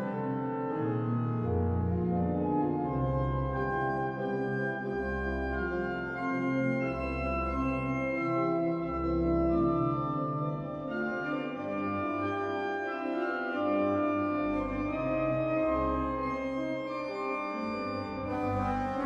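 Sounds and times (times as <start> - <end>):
organ music: 0.0 - 19.0.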